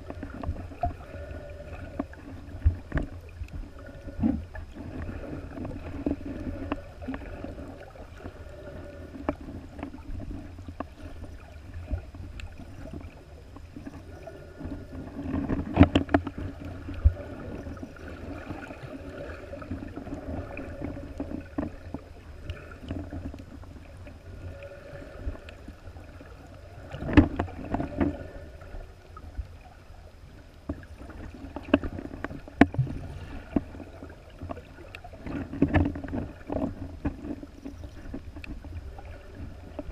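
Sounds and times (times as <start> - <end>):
underwater clicks and knocks: 0.0 - 8.4, 9.1 - 14.0, 14.6 - 18.9, 19.6 - 24.2, 26.8 - 28.3, 30.6 - 39.9
muffled underwater rumble: 0.0 - 39.9.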